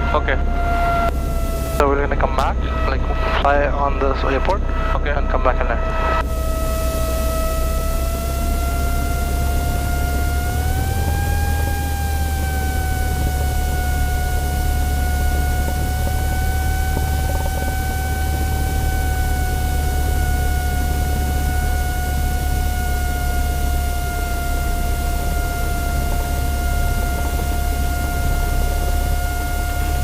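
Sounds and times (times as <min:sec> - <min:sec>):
airplane piston engine rumble: 0:00.0 - 0:30.0
steady high whine: 0:00.0 - 0:30.0.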